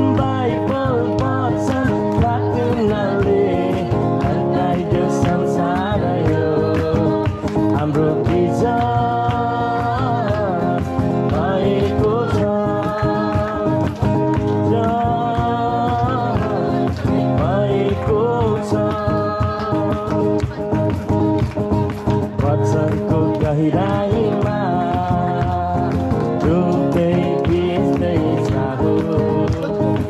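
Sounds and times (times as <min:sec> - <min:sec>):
people singing worship song: 0:00.0 - 0:20.6, 0:22.4 - 0:30.0
strummed guitar: 0:00.0 - 0:30.0.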